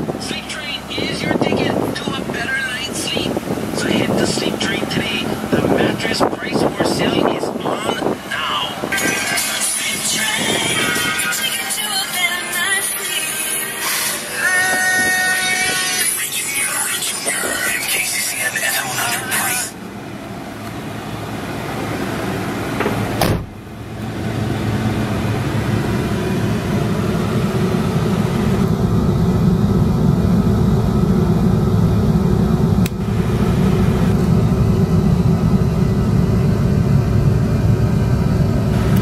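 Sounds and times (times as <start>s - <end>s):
truck engine rumbling: 0.0s - 39.0s.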